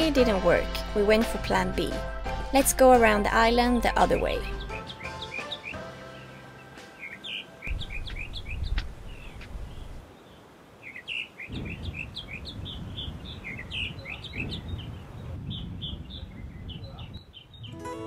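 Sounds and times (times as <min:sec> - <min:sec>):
bird chirping: 0:03.0 - 0:17.9.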